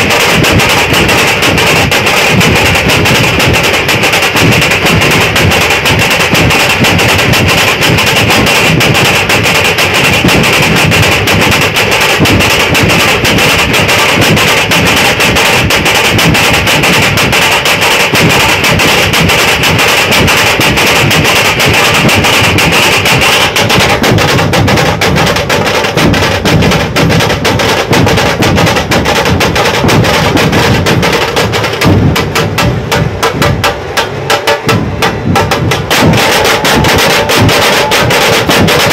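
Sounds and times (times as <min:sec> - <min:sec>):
barrel drums beating fast rhythm: 0:00.0 - 0:38.9.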